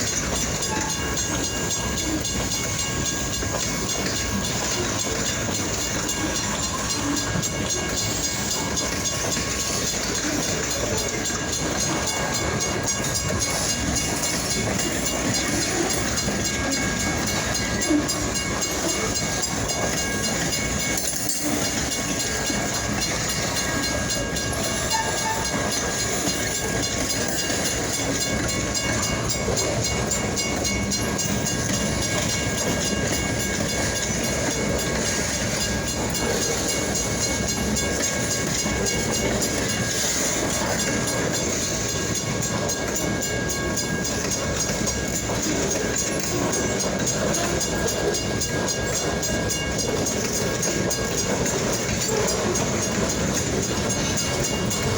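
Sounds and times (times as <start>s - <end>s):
train wheels on rails: 0.0s - 54.9s.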